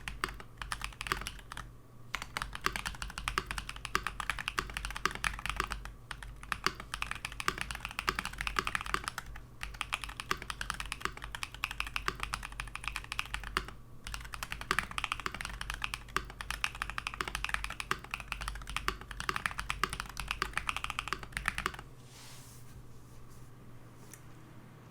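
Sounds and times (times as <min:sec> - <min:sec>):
typing on a mechanical keyboard: 0:00.0 - 0:21.8.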